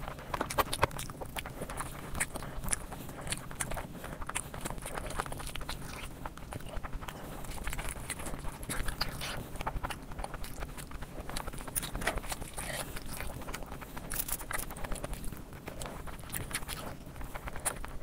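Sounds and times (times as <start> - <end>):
chewing with full mouth: 0.0 - 18.0.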